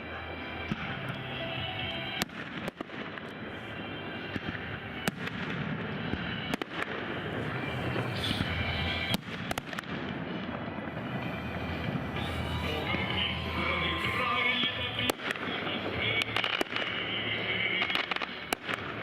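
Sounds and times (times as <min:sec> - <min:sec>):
music: 0:00.0 - 0:19.0
fireworks bangs: 0:02.1 - 0:19.0.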